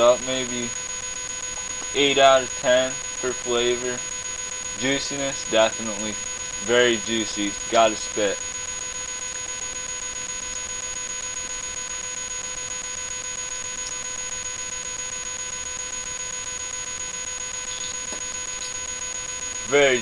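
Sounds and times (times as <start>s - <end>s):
electronic whine: 0.0s - 20.0s.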